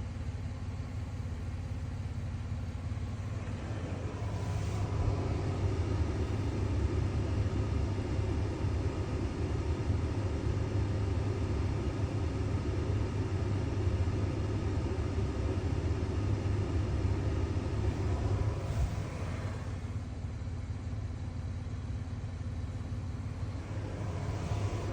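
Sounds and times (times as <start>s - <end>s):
vehicle engine rumbling: 0.0s - 24.9s.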